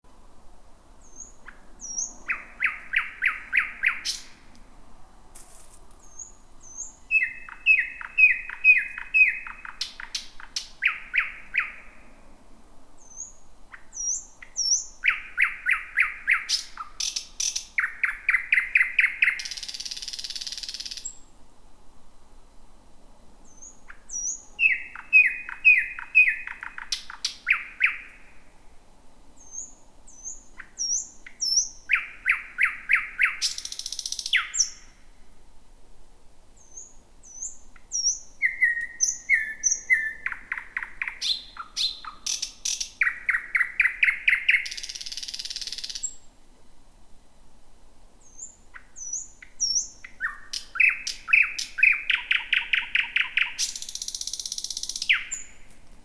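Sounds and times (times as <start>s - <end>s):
nightingale singing: 1.0s - 4.6s, 6.0s - 12.2s, 13.0s - 21.3s, 23.4s - 28.5s, 29.4s - 35.1s, 36.6s - 46.3s, 48.2s - 55.8s.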